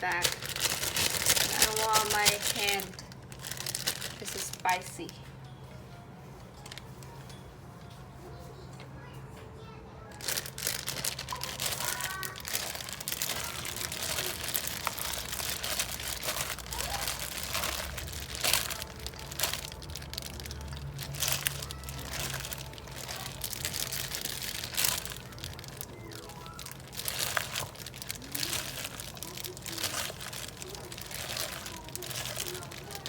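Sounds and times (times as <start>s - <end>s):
plastic bag crinkling: 0.0s - 5.2s, 10.1s - 33.0s.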